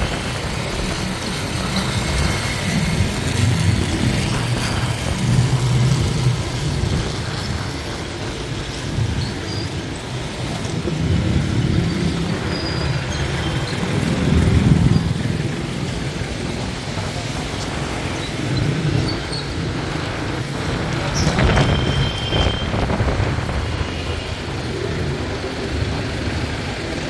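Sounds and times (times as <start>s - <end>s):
motorcycle engine and road rumble: 0.0s - 27.0s.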